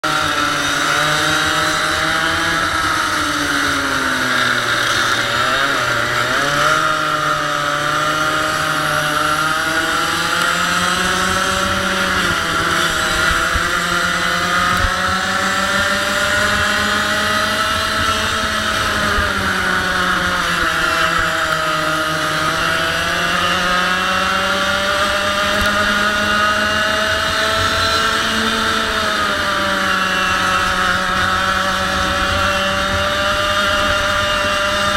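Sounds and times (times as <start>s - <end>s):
kart engine running hard: 0.0s - 34.9s.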